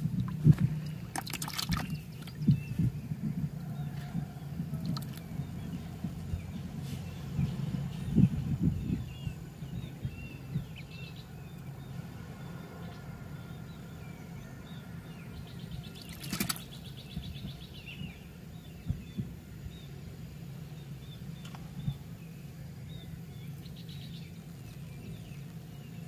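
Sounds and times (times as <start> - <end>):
low steady hum: 0.0 - 26.0
small birds chirping: 0.0 - 26.0.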